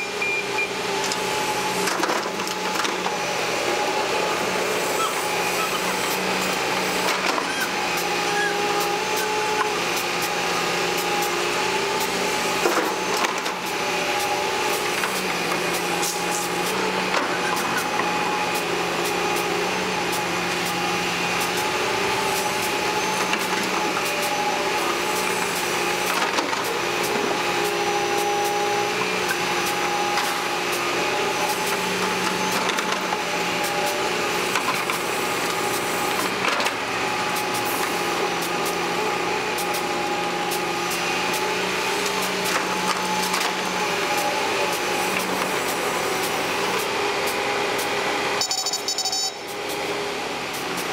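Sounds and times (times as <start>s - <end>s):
excavator engine and hydraulic whine: 0.0s - 50.9s.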